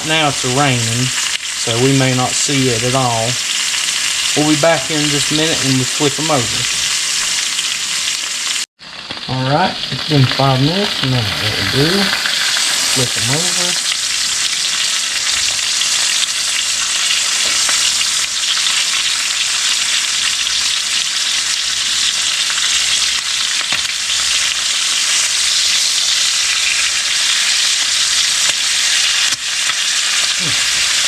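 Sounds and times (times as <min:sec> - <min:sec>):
meat sizzling in a skillet: 0:00.0 - 0:31.0.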